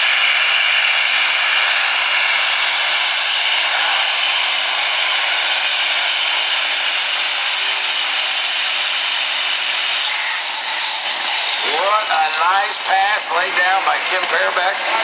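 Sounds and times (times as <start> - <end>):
tractor engine whining at high revs: 0.0 - 15.0.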